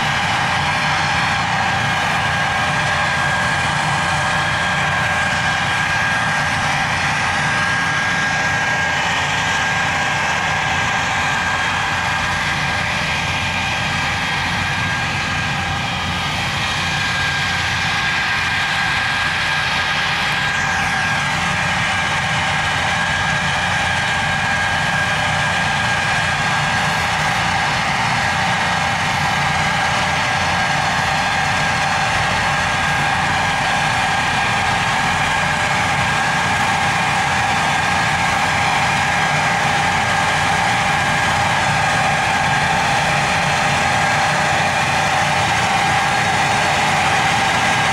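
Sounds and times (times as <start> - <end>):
machine running: 0.0 - 47.9.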